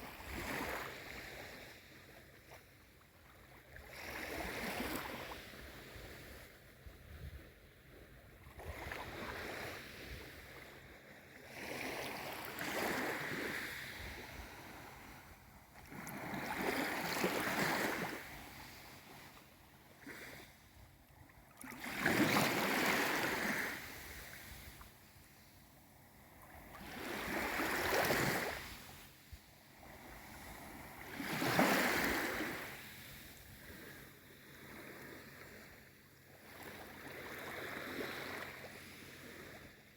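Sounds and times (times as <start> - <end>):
small sea waves washing in: 0.0 - 39.9.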